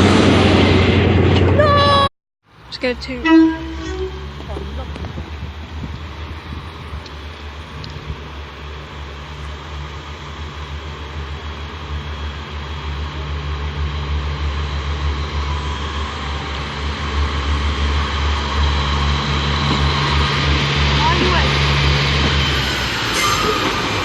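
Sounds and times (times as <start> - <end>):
diesel train engine humming: 0.0 - 24.0.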